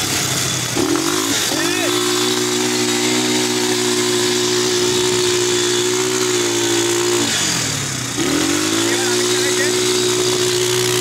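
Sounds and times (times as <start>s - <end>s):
quad bike engine: 0.0s - 11.0s.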